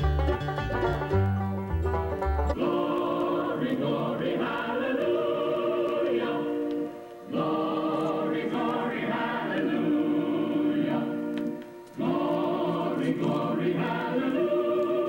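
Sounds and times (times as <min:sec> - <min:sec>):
choir singing held notes: 0:02.4 - 0:15.0.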